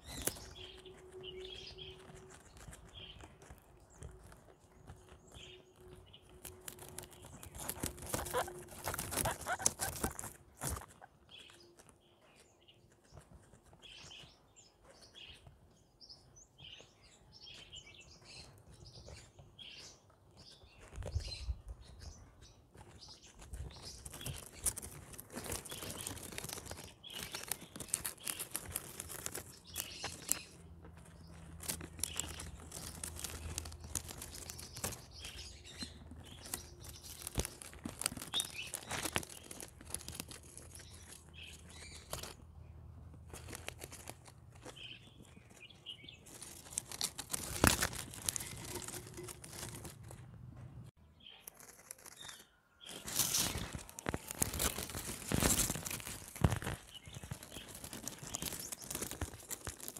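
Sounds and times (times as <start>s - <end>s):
guinea pigs chewing greens: 0.0s - 59.9s.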